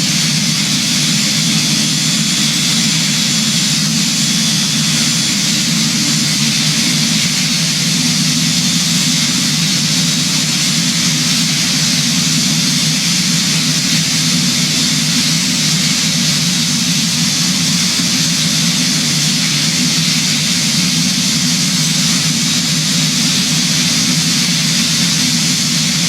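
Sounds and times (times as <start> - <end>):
airplane drone in flight: 0.0 - 26.0.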